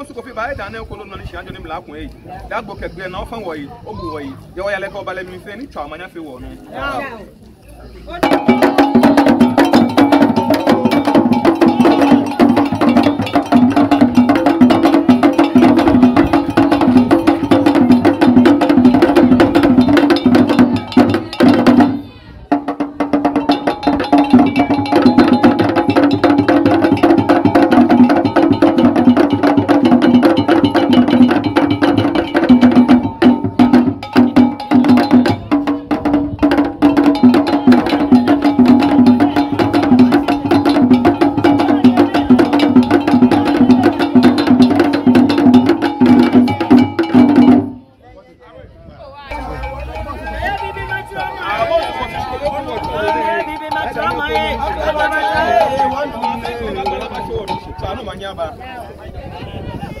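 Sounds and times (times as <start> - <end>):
drums: 8.0 - 48.0, 49.3 - 58.0
clattering wood-block percussion: 8.2 - 47.8, 49.3 - 58.2.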